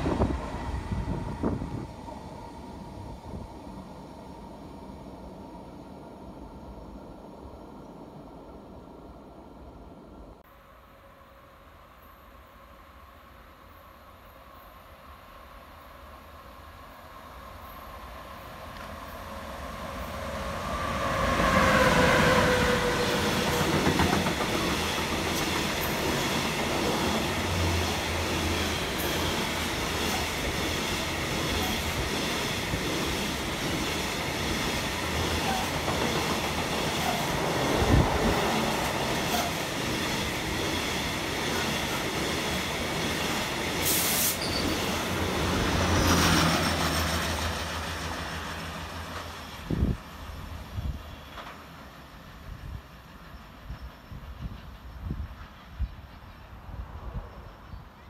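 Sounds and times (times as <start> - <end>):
train wheels rumbling on track: 0.0 - 8.0, 17.4 - 58.0.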